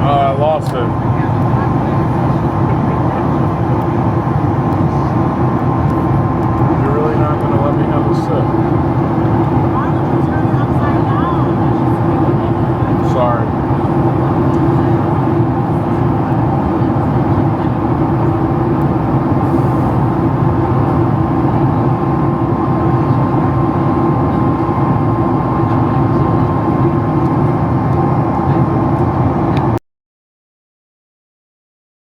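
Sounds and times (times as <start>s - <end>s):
airliner cabin rumble: 0.0s - 29.8s.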